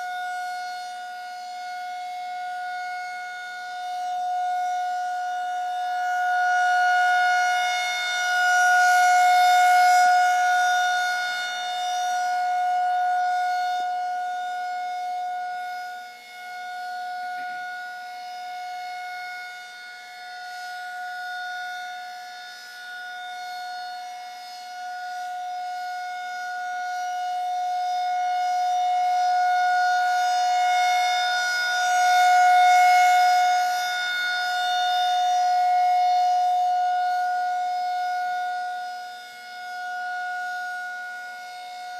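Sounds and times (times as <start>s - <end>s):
tornado warning siren: 0.0s - 41.9s.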